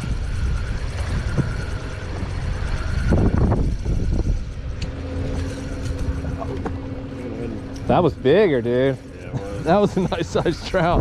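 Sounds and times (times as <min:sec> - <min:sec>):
boat motor rumbling: 0:00.0 - 0:11.0
steady hum: 0:00.0 - 0:11.0.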